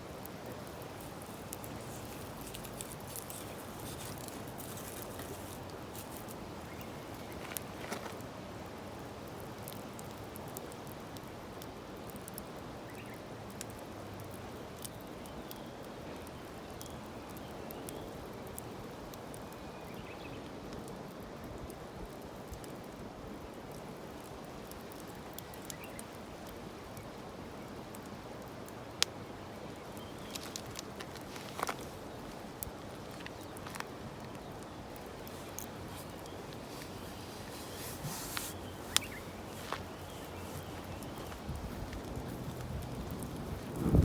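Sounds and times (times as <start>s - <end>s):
bonfire crackling and hissing: 0.0s - 44.0s.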